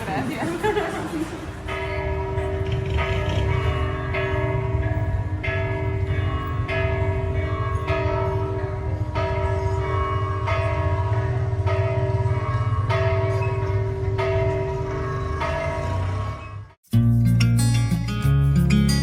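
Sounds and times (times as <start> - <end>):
church bell tolling: 0.0 - 16.8.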